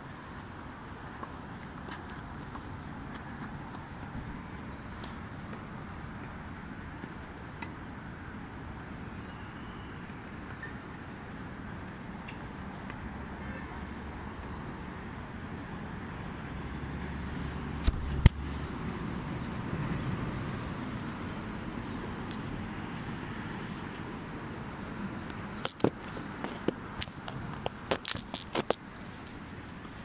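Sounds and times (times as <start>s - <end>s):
road traffic noise: 0.0s - 30.0s.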